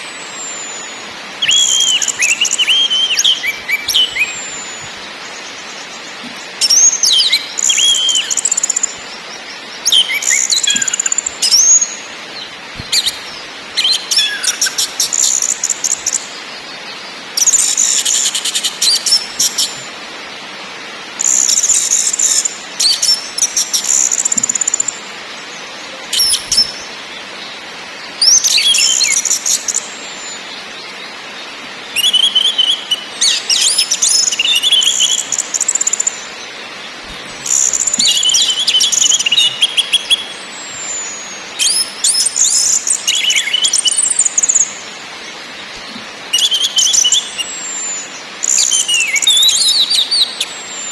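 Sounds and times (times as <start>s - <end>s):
background hiss: 0.0s - 50.9s.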